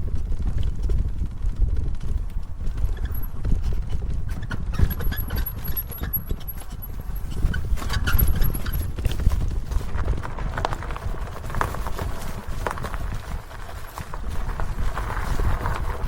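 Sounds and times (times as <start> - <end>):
bike clattering over rough ground: 0.0 - 16.0
wind rumbling on microphone: 0.0 - 16.0.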